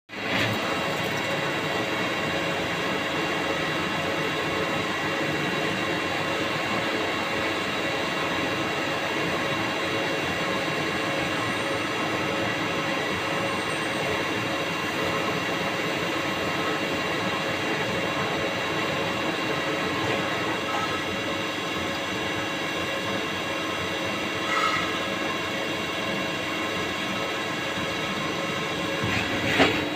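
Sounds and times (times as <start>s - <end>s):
lathe machining noise: 0.1s - 29.9s.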